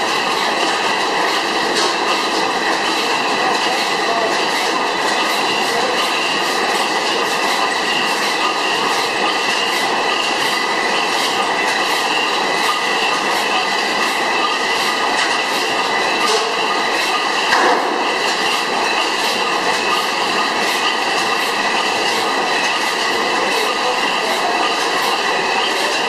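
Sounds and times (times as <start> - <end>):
stationary engine clattering: 0.0 - 26.0.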